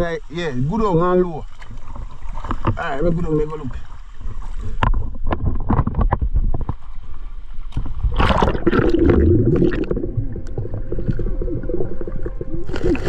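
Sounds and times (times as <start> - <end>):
water splashing and sloshing: 0.0 - 13.0
bubbling and gurgling underwater: 1.0 - 13.0.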